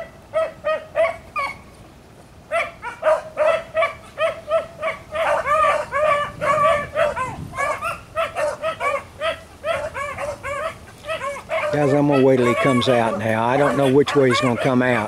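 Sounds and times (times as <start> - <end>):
pack of dogs barking: 0.0 - 1.6, 2.5 - 15.0.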